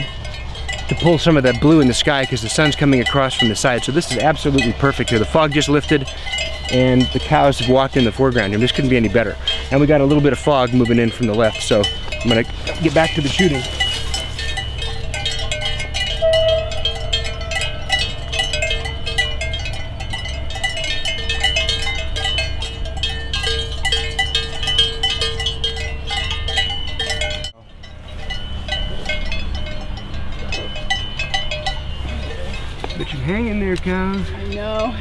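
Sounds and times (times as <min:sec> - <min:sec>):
cowbells clanking: 0:00.0 - 0:35.0.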